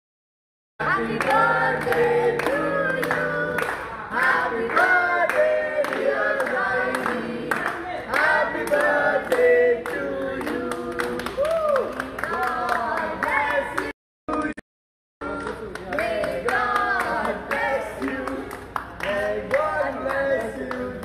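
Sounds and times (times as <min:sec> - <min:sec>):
voices singing together: 0:00.8 - 0:11.5, 0:12.2 - 0:14.6, 0:15.2 - 0:21.0
hand claps: 0:01.1 - 0:14.6, 0:15.2 - 0:21.0.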